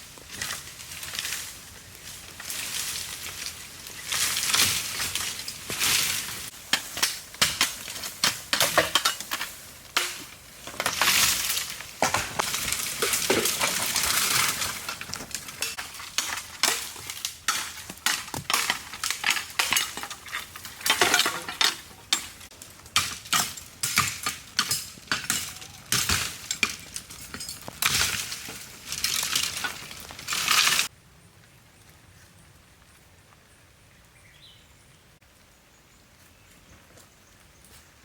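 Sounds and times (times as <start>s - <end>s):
hand tools scraping earth and stone: 0.0s - 30.9s.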